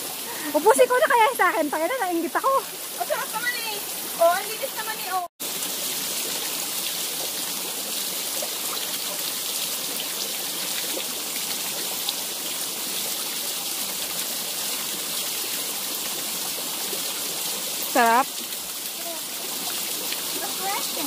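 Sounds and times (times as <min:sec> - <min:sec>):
water trickling onto stones: 0:00.3 - 0:21.0.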